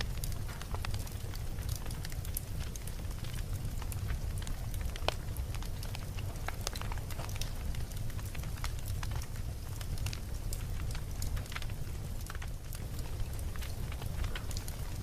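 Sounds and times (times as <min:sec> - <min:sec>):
burning wood crackling and popping: 0:00.0 - 0:15.0
campfire flames rumbling: 0:00.0 - 0:15.0.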